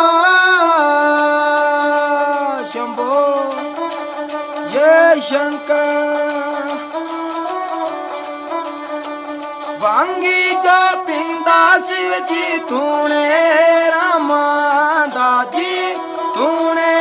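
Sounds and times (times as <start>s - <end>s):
bowed folk fiddle melody: 2.0s - 17.0s.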